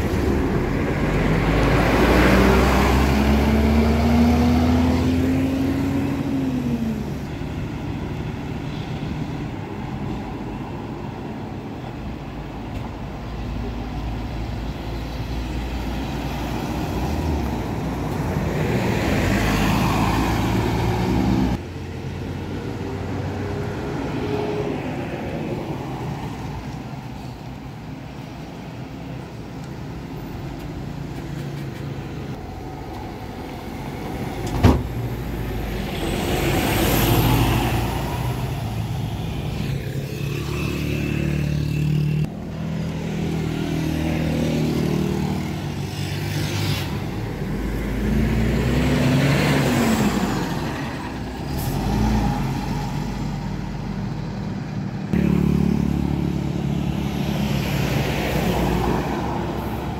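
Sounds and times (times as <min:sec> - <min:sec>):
traffic passing: 0:00.0 - 0:59.9.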